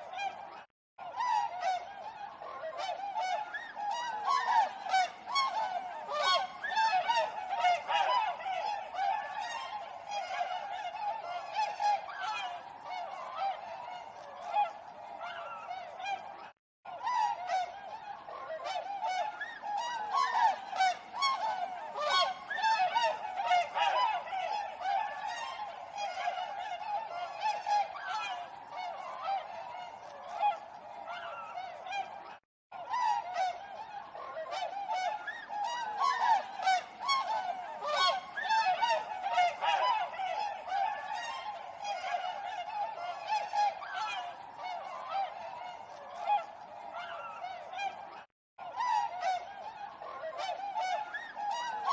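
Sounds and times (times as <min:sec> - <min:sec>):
swans honking: 0:00.0 - 0:51.9.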